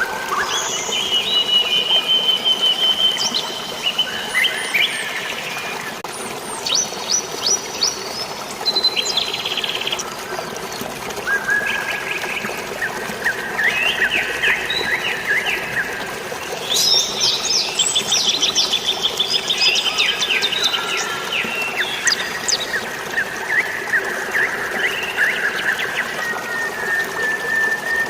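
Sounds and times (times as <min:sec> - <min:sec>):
birds chirping and trilling: 0:00.0 - 0:26.7
flowing water: 0:00.0 - 0:28.0.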